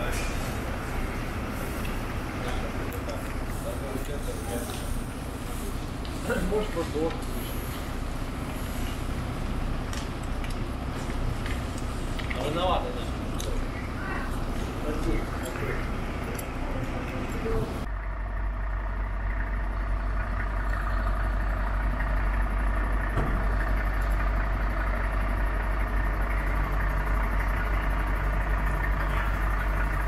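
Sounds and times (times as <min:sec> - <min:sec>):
fire engine idling: 0:00.0 - 0:30.0.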